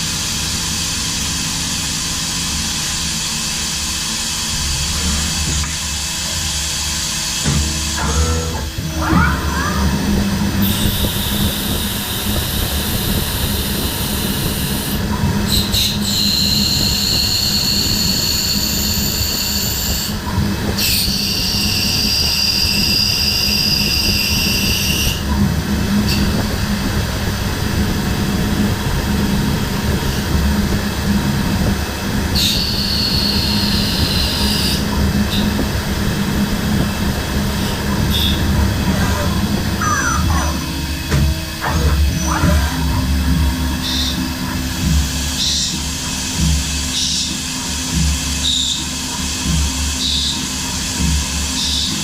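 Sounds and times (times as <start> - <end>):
high-pitched cutting whine: 0.0 - 20.2, 20.8 - 52.0
machine low hum: 0.0 - 52.0.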